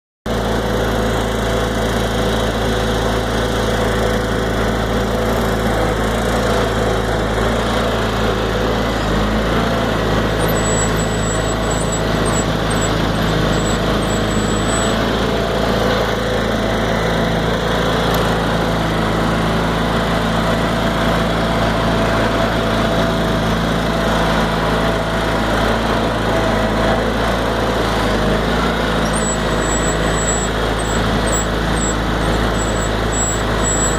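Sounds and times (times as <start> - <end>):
garden tractor engine running: 0.3 - 33.9.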